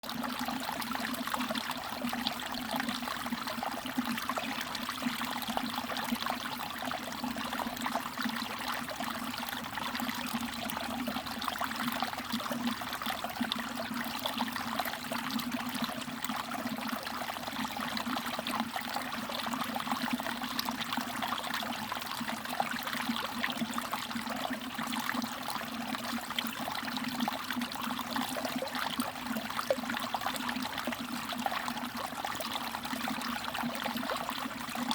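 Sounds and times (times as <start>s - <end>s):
stream trickling over rocks: 0.0s - 34.9s.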